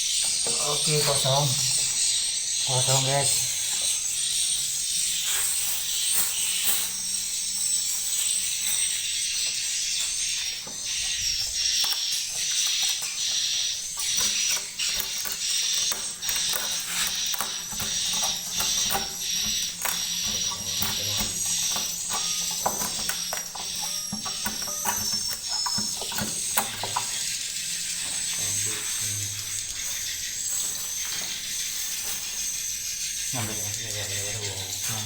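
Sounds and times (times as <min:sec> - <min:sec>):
birds twittering with clicks: 0:00.1 - 0:31.9.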